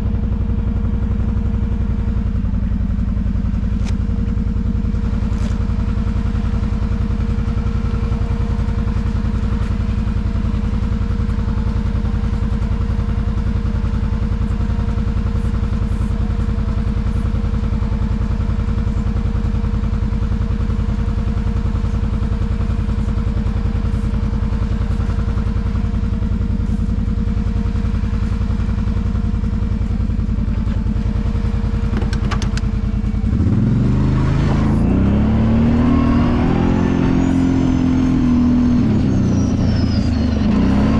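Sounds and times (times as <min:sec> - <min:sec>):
atv engine running and revving: 0:00.0 - 0:40.9.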